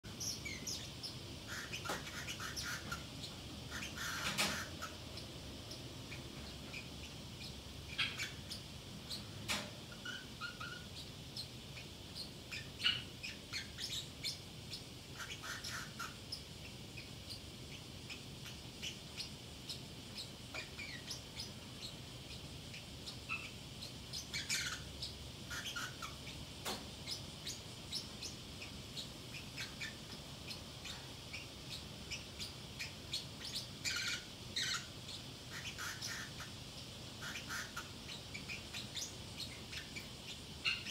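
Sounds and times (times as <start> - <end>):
parrot chirping and chattering: 0.0 - 40.9.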